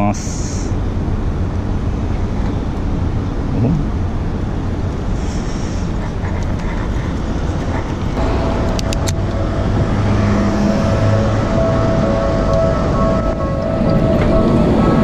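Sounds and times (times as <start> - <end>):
traffic and road noise: 0.0 - 15.0.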